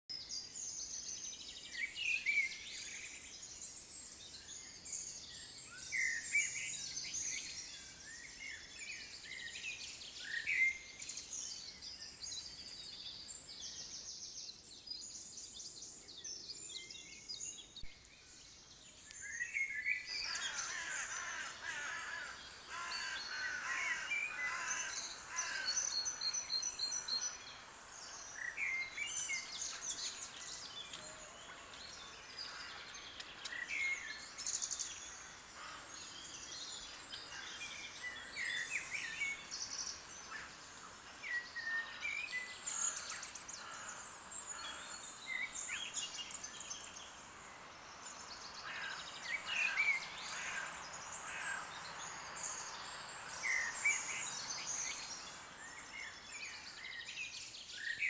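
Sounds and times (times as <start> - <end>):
birds chirping: 0.1 - 58.0
faint background hiss: 0.1 - 58.0.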